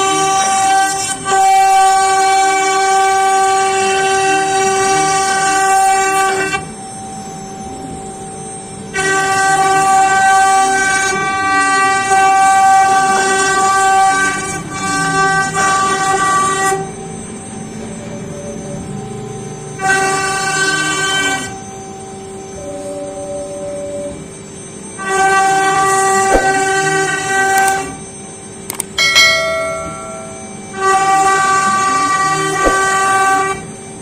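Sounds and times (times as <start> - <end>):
router spindle high-pitched whine: 0.0 - 34.0.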